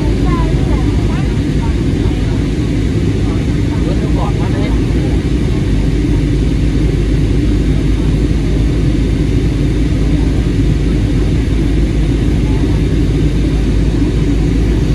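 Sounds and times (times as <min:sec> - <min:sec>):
aircraft cabin engine drone: 0:00.0 - 0:14.9.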